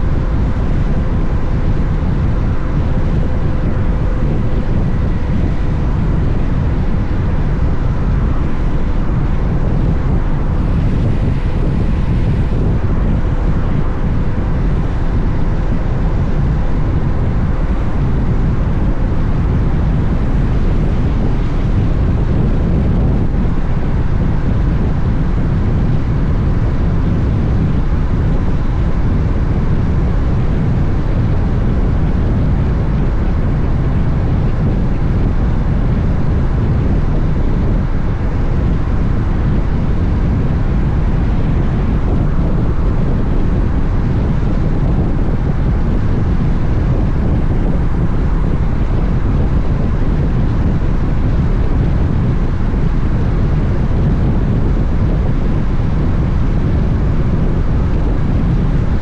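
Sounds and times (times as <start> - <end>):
wind rush on microphone: 0.0 - 59.0.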